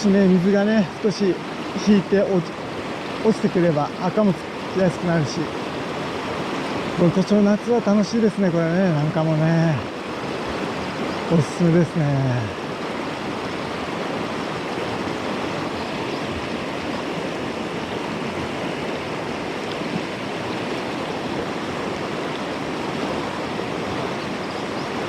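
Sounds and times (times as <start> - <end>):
river rushing: 0.0 - 25.0.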